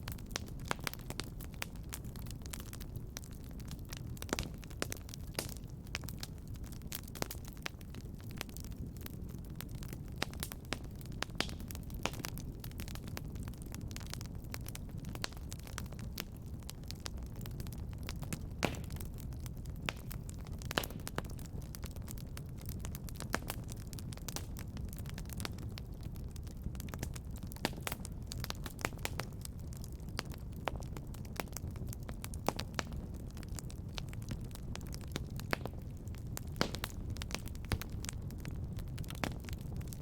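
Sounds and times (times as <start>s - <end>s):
fire crackling with pops: 0.0s - 40.0s.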